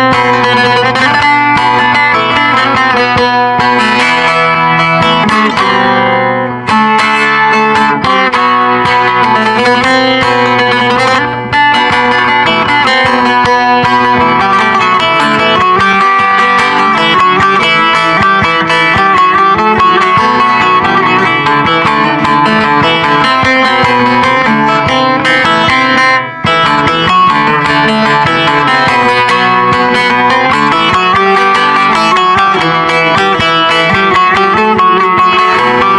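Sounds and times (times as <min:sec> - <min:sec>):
plucked lute folk melody: 0:00.0 - 0:35.9.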